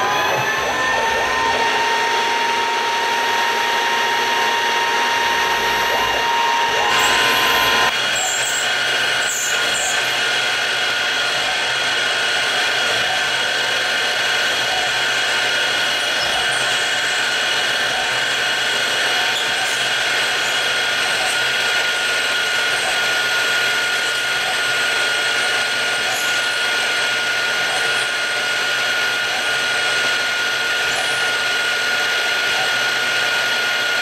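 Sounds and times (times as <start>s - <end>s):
mill spindle whining while drilling: 0.0s - 34.0s.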